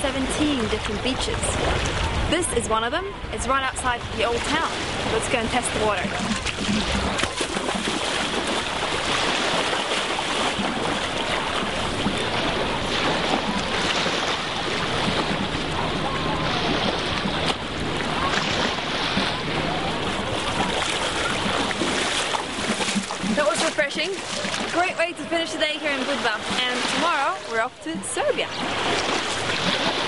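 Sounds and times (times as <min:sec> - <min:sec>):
wind noise on microphone: 0:00.0 - 0:25.0
small sea waves washing: 0:03.4 - 0:30.0.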